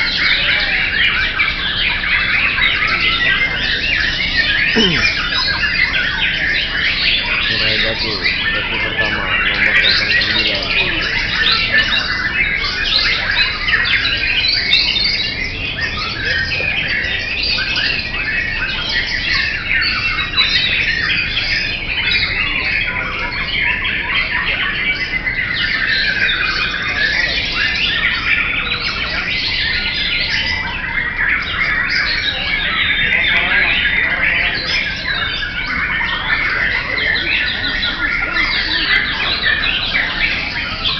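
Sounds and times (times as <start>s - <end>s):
chorus of birds singing: 0.0s - 40.9s.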